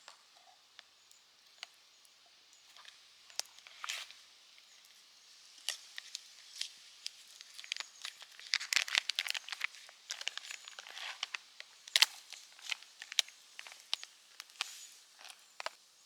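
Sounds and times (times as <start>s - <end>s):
crinkling and crackling: 0.0s - 16.0s.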